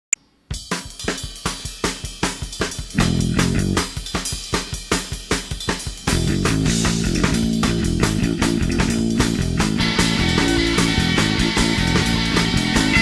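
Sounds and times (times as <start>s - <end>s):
rock music: 1.0s - 13.0s.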